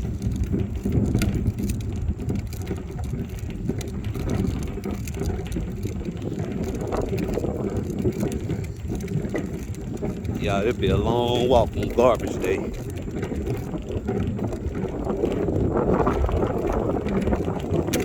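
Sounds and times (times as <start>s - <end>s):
garbage can rolling: 0.0s - 18.0s.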